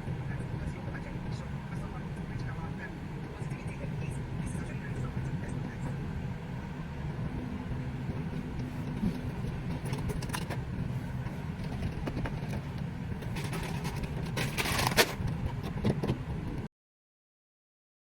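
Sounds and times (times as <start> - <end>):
car engine and road rumble: 0.0 - 16.7.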